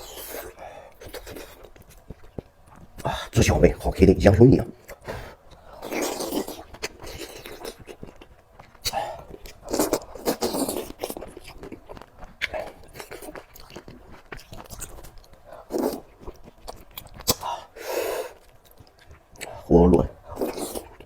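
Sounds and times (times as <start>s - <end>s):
person chewing food: 0.0s - 3.4s, 4.8s - 21.0s.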